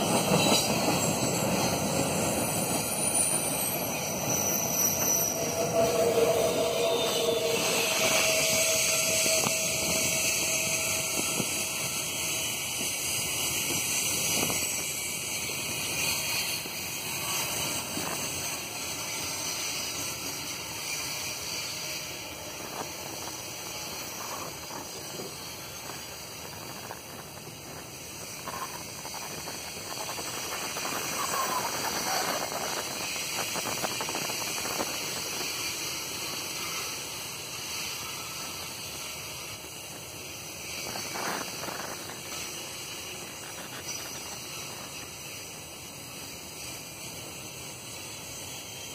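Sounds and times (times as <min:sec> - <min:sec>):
faint wheel squeals: 0:00.0 - 0:46.8
train wheels rolling on rails: 0:00.0 - 0:48.9.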